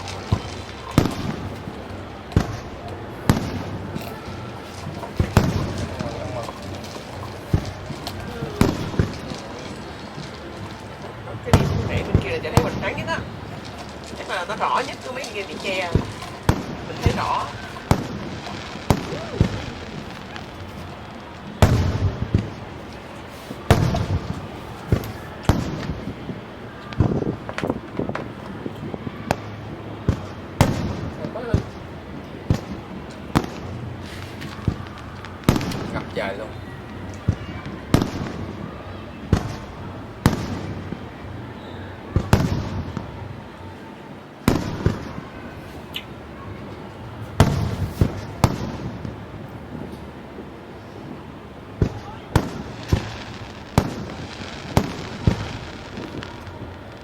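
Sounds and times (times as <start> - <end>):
fireworks bangs with rumbling echo: 0.0 - 57.0
small fireworks pops: 0.0 - 57.0.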